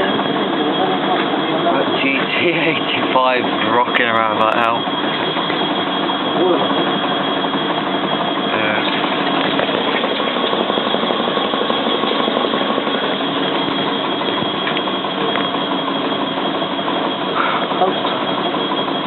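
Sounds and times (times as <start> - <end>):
washing machine spinning with rattle: 0.0 - 19.0.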